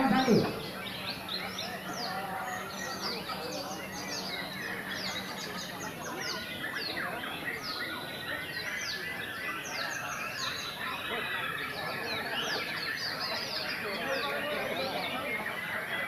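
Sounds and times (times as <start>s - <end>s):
birds singing whistled phrases: 0.0s - 16.0s
low crowd murmur: 0.0s - 16.0s.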